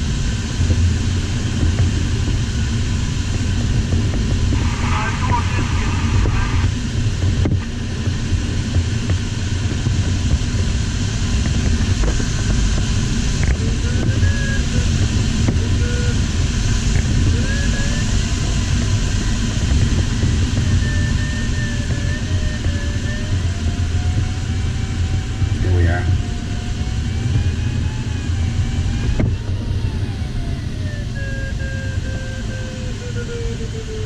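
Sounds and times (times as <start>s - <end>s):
rush of air over cockpit: 0.0s - 34.0s.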